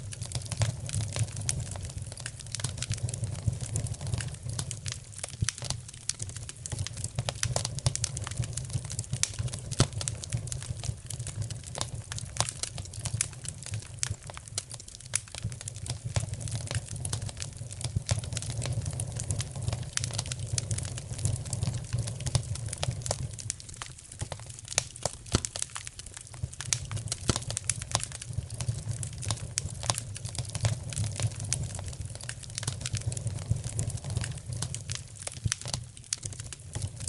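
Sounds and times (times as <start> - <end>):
low rumble of fire: 0.0 - 37.0
wood fire crackling and popping: 0.0 - 37.0.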